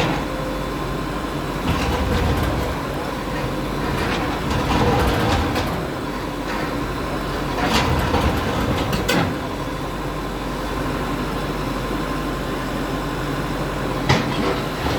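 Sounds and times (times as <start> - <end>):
bulldozer rumbling: 0.0 - 14.9.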